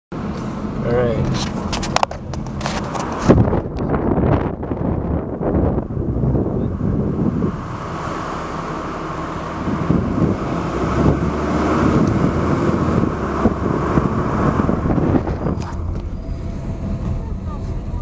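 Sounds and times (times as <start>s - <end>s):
car engine: 0.1s - 18.0s
road noise inside moving car: 0.1s - 18.0s.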